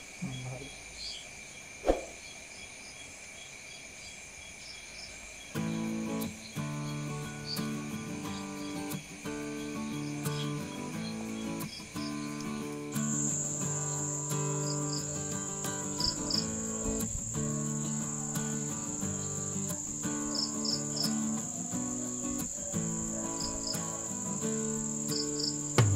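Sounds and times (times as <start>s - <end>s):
insect trilling: 0.0s - 25.9s
short insect chirps: 0.0s - 25.9s.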